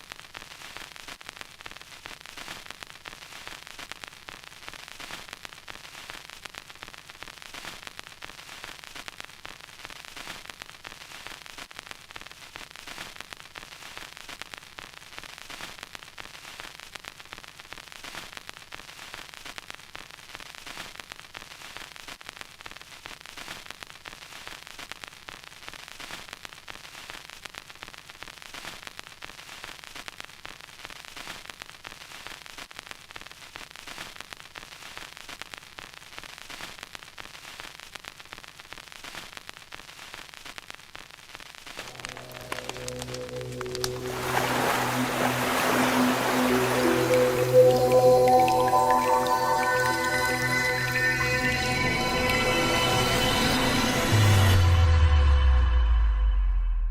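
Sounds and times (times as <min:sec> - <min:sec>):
vinyl record crackle: 0:00.0 - 0:44.1, 0:46.2 - 0:51.3.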